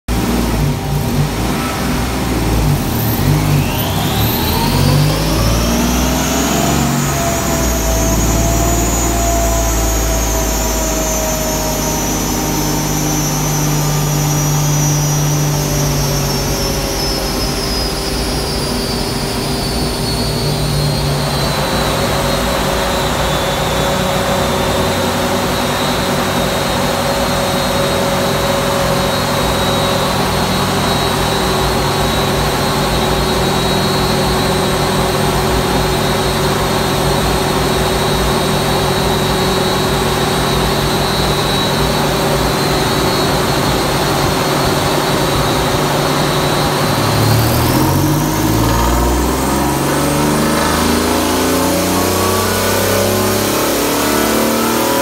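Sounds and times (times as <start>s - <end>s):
car engine revving under load: 0.0s - 55.0s
high whine winding down: 0.1s - 55.0s
rush of noise: 0.1s - 55.0s.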